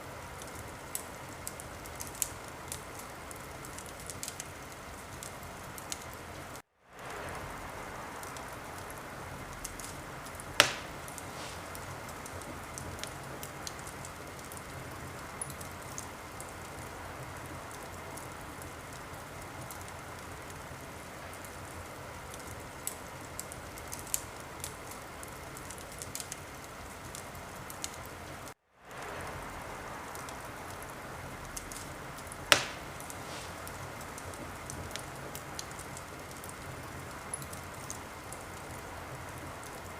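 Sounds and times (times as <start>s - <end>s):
fire crackles: 0.0s - 39.9s
wood fire hissing: 0.0s - 39.9s
loud fire pops: 0.3s - 28.1s, 28.8s - 39.8s.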